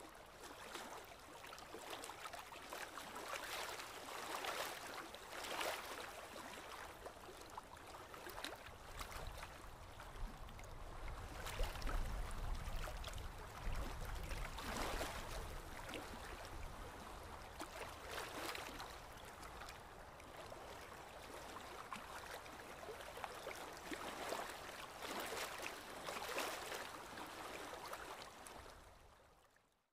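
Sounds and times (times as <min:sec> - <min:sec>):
waves lapping against seawall: 0:00.0 - 0:28.8.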